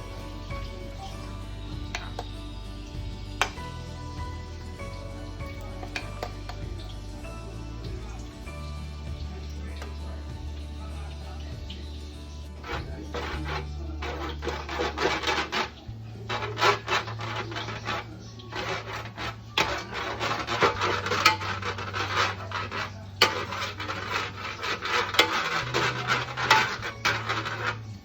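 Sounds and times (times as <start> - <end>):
utensils scraping cookware: 0.0 - 4.2, 4.8 - 7.0, 9.4 - 10.2, 12.4 - 28.0.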